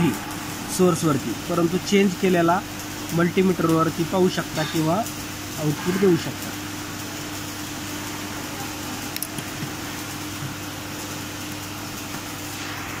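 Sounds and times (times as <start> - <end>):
even hiss: 0.0 - 13.0
steady background hum: 0.0 - 13.0.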